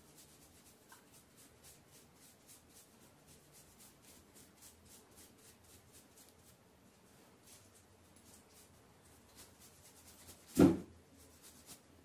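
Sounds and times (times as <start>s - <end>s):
quick rubbing strokes: 0.0s - 11.9s.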